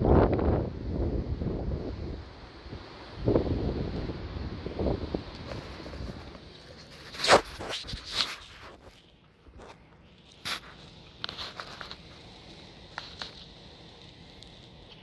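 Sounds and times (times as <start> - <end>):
faint wind noise: 0.0 - 15.0.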